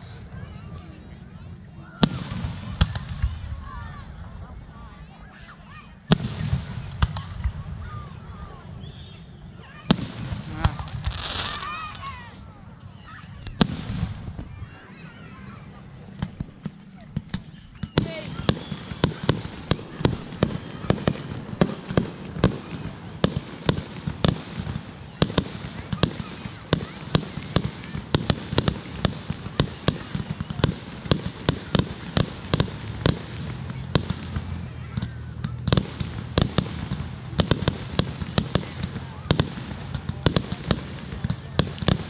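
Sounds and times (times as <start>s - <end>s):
fireworks bangs: 1.8s - 4.2s, 4.9s - 42.0s.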